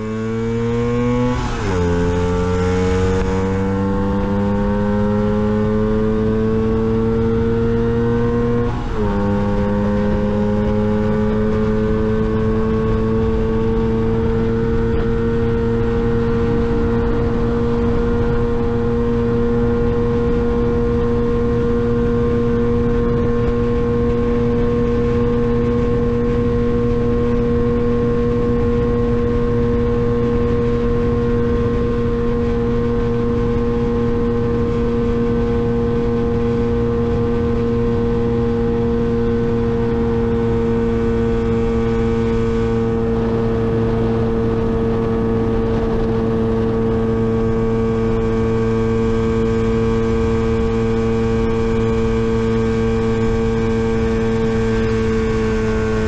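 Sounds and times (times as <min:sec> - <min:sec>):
scooter engine at full throttle: 0:00.0 - 0:56.0.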